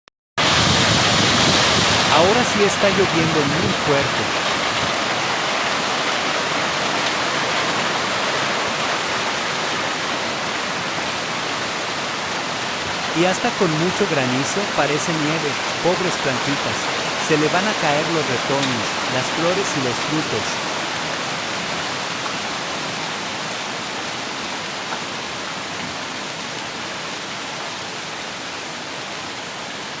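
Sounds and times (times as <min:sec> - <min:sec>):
heavy rain and hail: 0:00.4 - 0:30.0.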